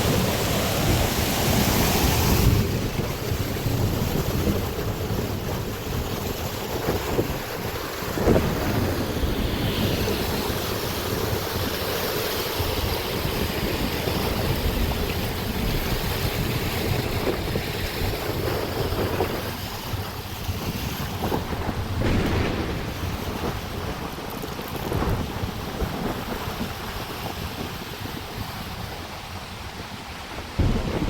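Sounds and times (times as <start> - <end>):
heavy rain: 0.0 - 31.0
wind gusts on microphone: 0.0 - 31.0.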